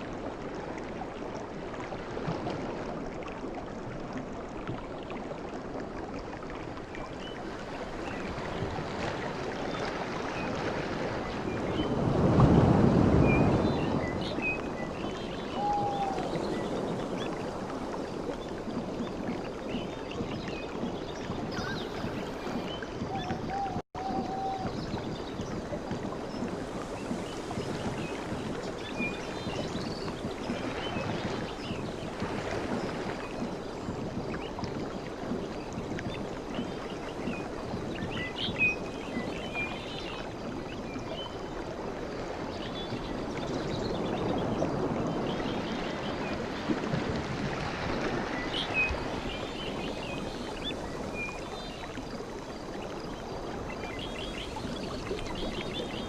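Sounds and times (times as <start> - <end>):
sea waves washing on beach: 0.0 - 56.0.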